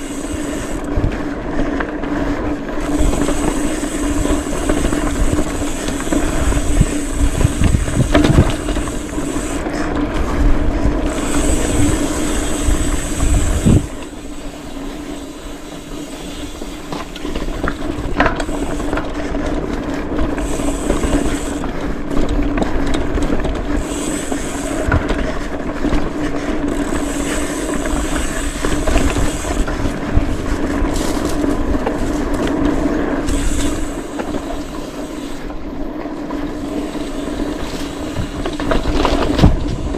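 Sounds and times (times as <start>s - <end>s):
wind buffeting microphone: 0.0s - 14.8s, 16.4s - 39.9s
bicycle freehub buzz: 0.0s - 39.9s
tyres rumbling over rough ground: 0.0s - 39.9s.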